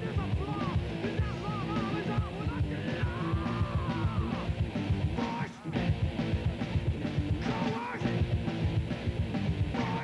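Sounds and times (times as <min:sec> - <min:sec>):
rock music with drums and guitar: 0:00.0 - 0:10.0.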